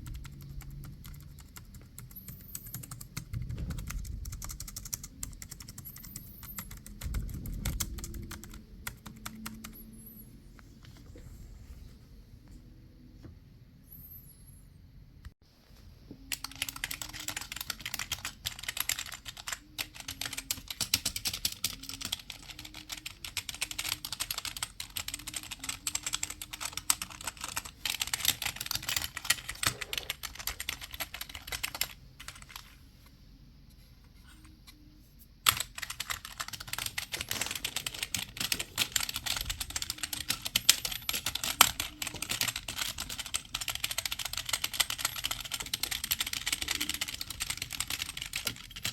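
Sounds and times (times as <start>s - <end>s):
fast typing on keyboard: 0.0s - 10.0s, 16.3s - 32.6s, 35.4s - 48.9s.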